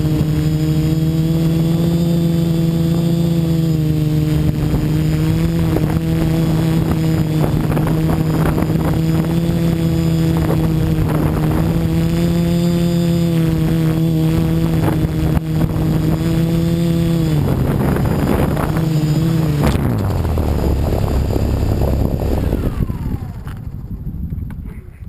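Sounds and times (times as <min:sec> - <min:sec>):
motors spinning down whine: 0:00.0 - 0:24.2
quadcopter motors humming: 0:00.0 - 0:24.9
wind noise: 0:00.0 - 0:25.0.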